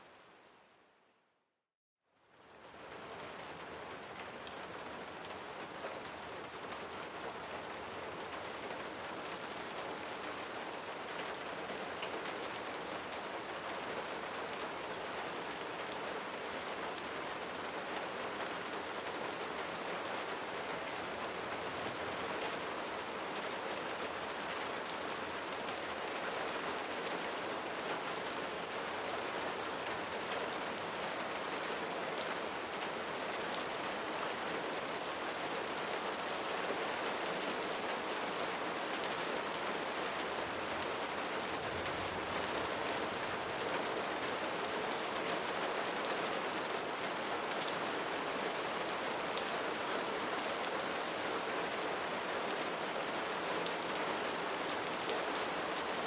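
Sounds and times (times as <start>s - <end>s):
rain pattering: 2.5s - 56.0s.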